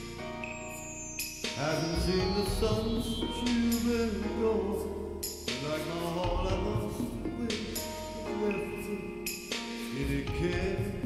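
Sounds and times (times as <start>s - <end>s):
backing track with deep bass: 0.0s - 11.0s
man singing into microphone: 1.6s - 11.0s.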